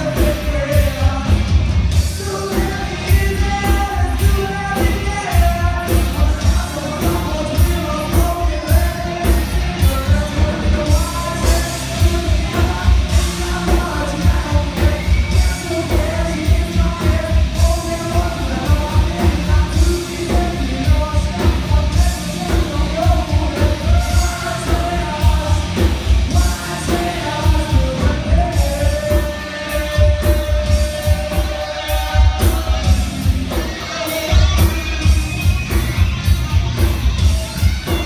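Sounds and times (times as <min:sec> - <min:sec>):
person singing: 0:00.0 - 0:38.0
rock band playing loud: 0:00.0 - 0:38.0.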